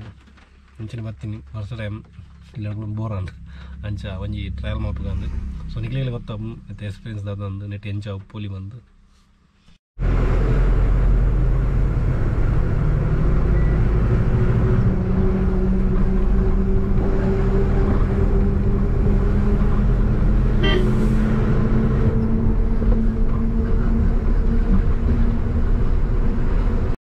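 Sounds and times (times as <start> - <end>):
truck engine rumbling: 0.0 - 7.9, 10.0 - 27.0.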